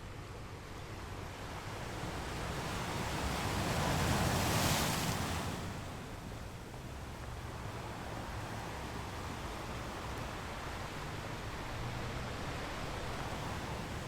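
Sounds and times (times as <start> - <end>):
low rumble of sea: 0.0 - 14.0.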